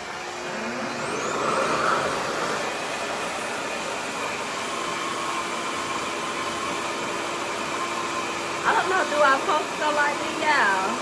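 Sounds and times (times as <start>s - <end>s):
hair dryer motor whine: 0.0s - 11.0s.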